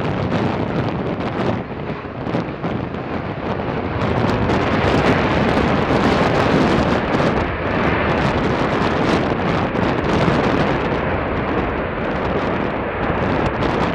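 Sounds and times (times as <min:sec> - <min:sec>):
jet airliner rumble: 0:00.0 - 0:13.9
wind buffeting microphone: 0:00.0 - 0:13.9.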